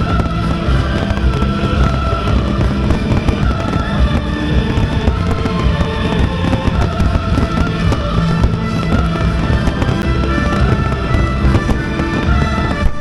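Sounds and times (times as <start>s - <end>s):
fireworks bursting and crackling: 0.0s - 13.0s
loud music with held tones: 0.0s - 13.0s.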